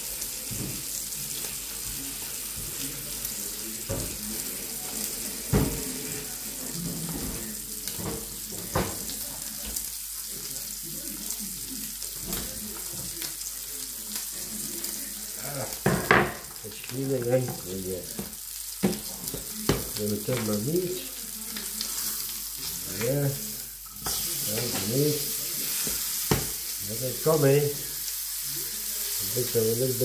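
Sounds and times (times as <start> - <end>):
cutlet sizzling in a pan: 0.0 - 30.0.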